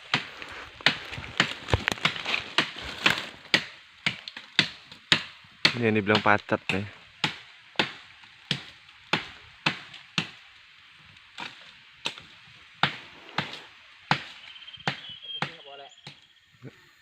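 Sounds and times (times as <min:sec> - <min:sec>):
sharp chopping strikes: 0:00.1 - 0:10.4, 0:11.4 - 0:16.2.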